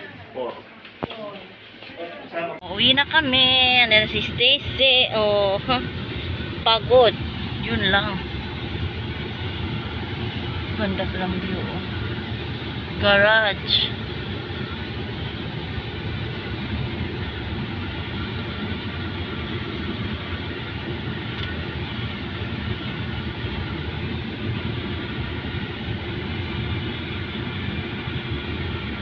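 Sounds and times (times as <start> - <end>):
car engine and road noise: 2.7 - 29.0.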